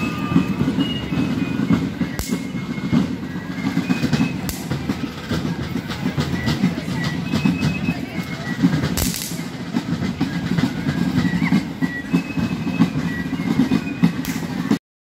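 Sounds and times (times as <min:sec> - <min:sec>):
snare drum rattling: 0:00.0 - 0:14.8.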